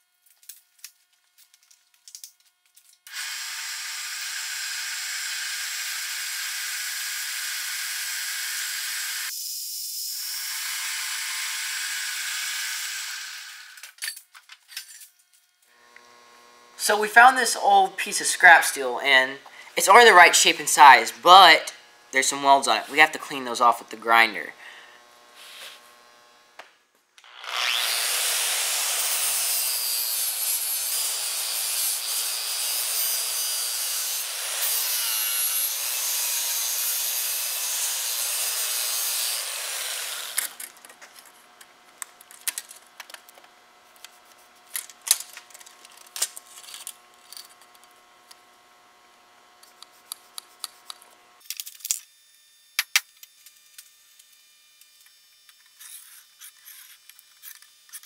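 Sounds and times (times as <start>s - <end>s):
grinder grinding steel: 3.0s - 14.1s, 14.8s - 26.6s, 27.2s - 48.4s, 49.4s - 58.0s.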